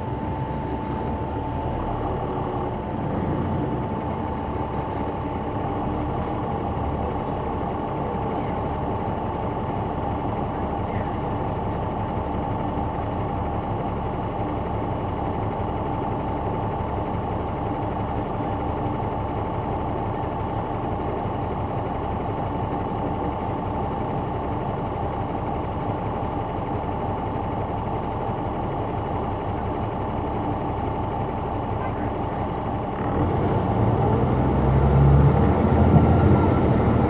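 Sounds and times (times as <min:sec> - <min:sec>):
bus diesel engine drone: 0:00.0 - 0:37.0.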